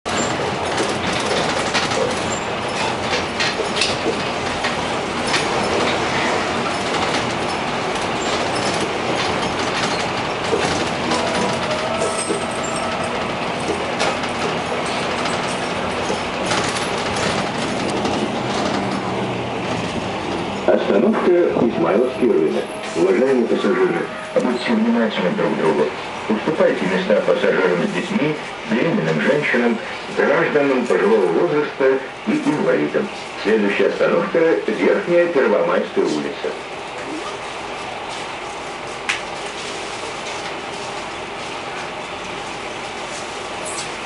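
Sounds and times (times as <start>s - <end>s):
bus body rattling and clicking: 0.0s - 38.3s, 38.9s - 44.0s
bus engine and road noise: 0.0s - 44.0s.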